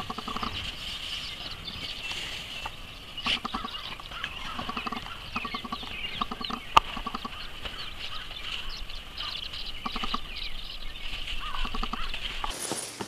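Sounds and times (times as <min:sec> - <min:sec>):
bird clucking calls: 0:00.0 - 0:12.6
birds chirping: 0:00.0 - 0:13.0.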